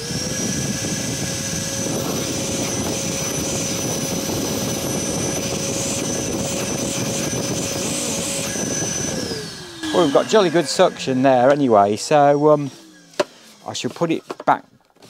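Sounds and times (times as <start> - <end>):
vacuum cleaner running: 0.0 - 14.5.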